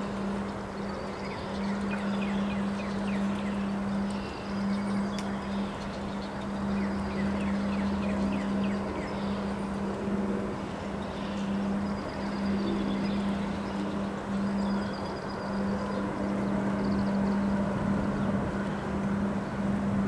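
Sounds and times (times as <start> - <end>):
steady low hum: 0.0 - 20.0
wind blowing through trees: 0.0 - 20.0.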